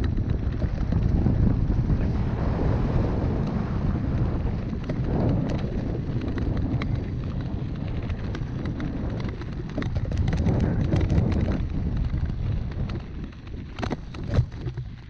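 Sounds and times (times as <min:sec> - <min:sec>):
bike tyres rumbling on dirt: 0:00.0 - 0:15.0
gravel and bike rattles: 0:00.0 - 0:15.0
wind on microphone: 0:00.0 - 0:15.0.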